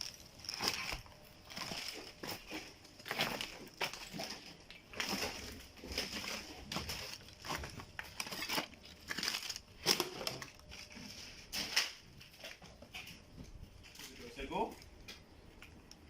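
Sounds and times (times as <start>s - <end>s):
crunching and crackling debris: 0.0s - 16.0s.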